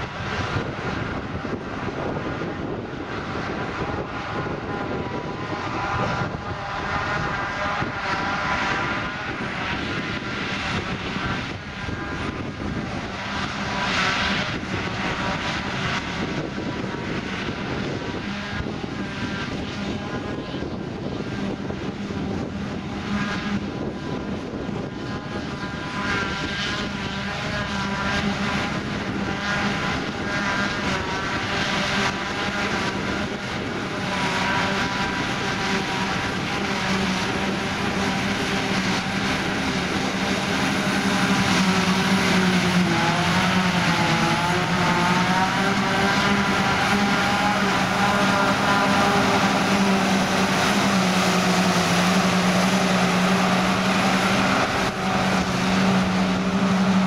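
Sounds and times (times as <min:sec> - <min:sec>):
harvester and tractor engines droning: 0:00.0 - 0:57.0.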